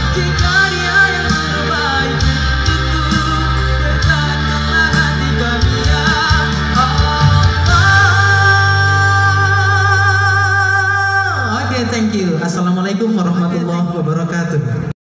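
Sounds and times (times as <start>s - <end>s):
man singing into microphone: 0.0s - 12.5s
band with keyboards and bass: 0.0s - 14.9s.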